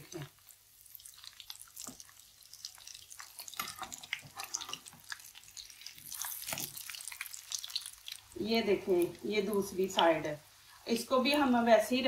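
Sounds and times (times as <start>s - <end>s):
patties frying in fat: 0.0s - 12.0s.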